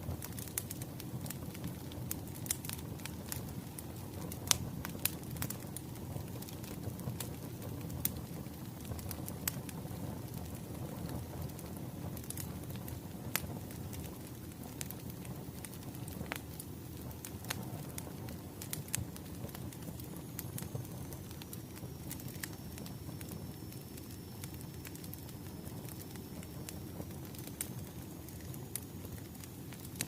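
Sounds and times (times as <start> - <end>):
firewood crackling and popping: 0.0 - 30.0.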